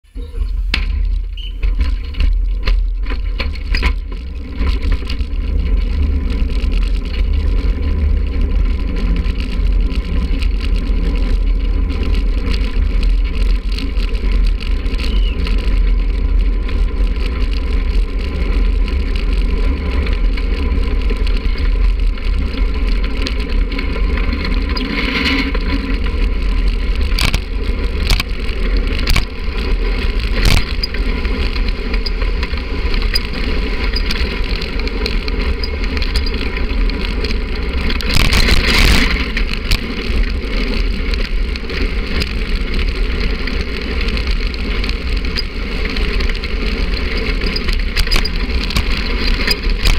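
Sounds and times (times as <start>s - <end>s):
cart wheels rumbling on asphalt: 0.0s - 49.9s.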